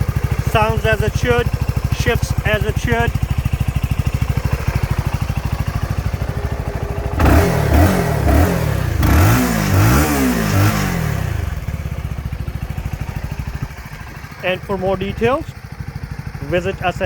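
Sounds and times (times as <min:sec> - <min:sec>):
engine throttle blips: 0:00.0 - 0:17.0
motorcycle engine idling: 0:00.0 - 0:17.0.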